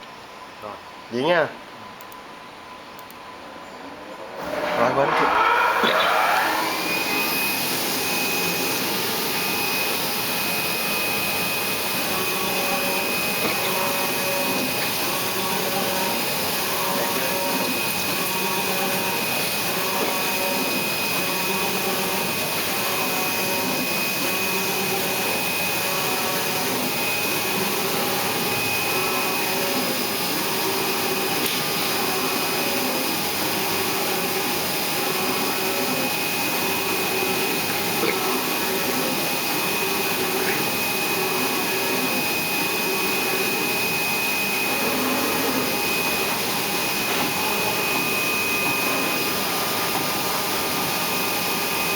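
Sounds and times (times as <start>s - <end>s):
high machine whine: 0.1s - 51.9s
cutting machine blower rush: 4.3s - 51.9s.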